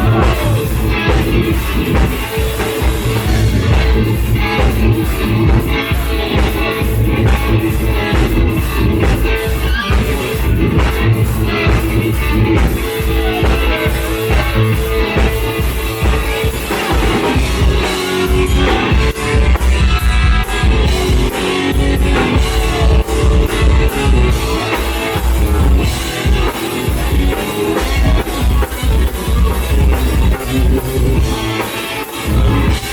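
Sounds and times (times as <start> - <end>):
drum kit beat: 0.0 - 32.9
electric guitar playing: 0.0 - 32.9.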